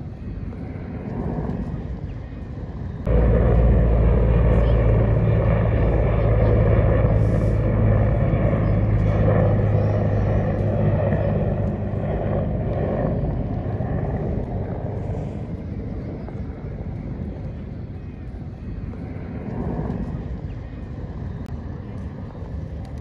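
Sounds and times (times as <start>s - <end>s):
helicopter flying past: 0.0s - 23.0s.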